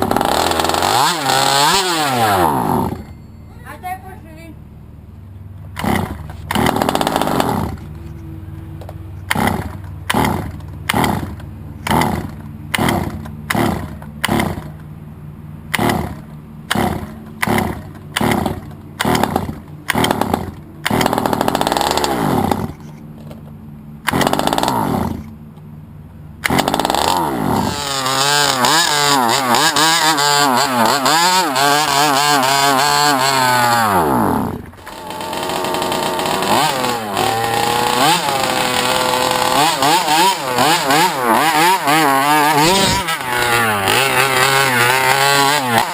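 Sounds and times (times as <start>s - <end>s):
small two-stroke engine cranking: 0.0s - 3.1s, 5.7s - 8.0s, 9.3s - 14.9s, 15.7s - 23.0s, 24.0s - 25.4s, 26.4s - 45.9s
small two-stroke engine running: 0.0s - 3.2s, 5.7s - 8.2s, 8.8s - 14.9s, 15.7s - 23.4s, 24.0s - 25.4s, 26.4s - 45.9s.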